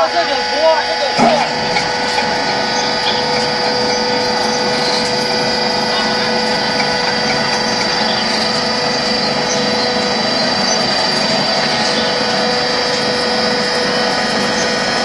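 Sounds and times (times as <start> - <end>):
block-making machine drone: 0.0 - 15.0
high mechanical whine: 0.0 - 15.0.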